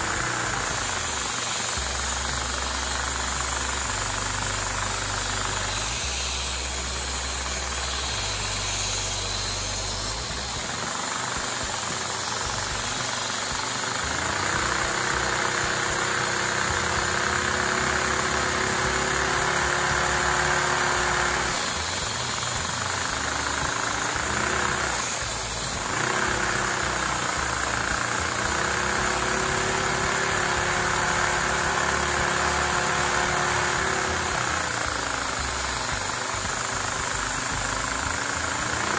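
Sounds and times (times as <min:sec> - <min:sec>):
handheld vacuum cleaner running: 0:00.0 - 0:38.9.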